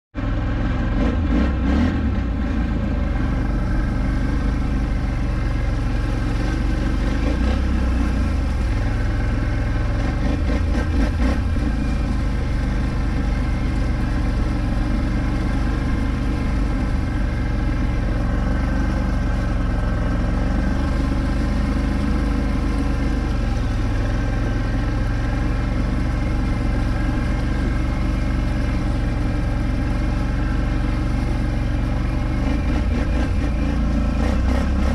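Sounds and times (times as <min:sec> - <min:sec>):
atv engine revving: 0:00.2 - 0:34.9
wheels splashing water: 0:00.2 - 0:34.9.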